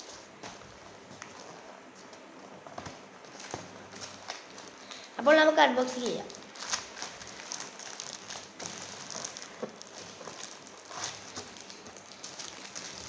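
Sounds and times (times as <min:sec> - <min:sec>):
cardboard parcel rustling: 0:00.0 - 0:13.0
plastic wrap crinkling: 0:02.4 - 0:13.0.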